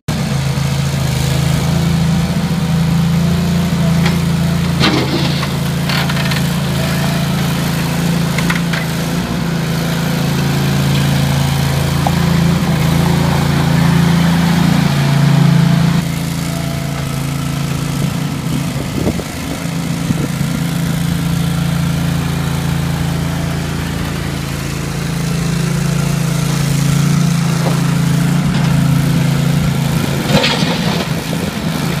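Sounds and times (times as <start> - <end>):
skid loader engine running: 0.1 - 32.0.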